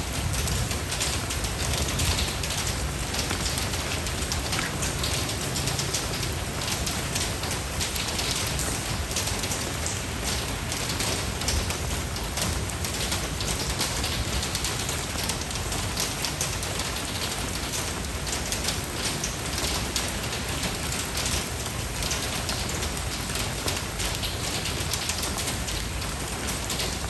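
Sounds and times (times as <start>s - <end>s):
rain pattering on a surface: 0.0s - 27.0s.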